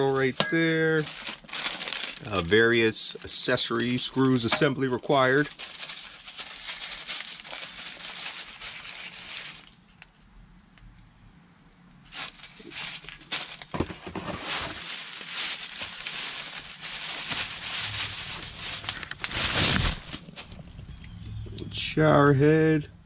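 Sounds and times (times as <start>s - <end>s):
plastic bag and bubble wrap crinkling: 0.0s - 10.1s, 12.1s - 20.7s.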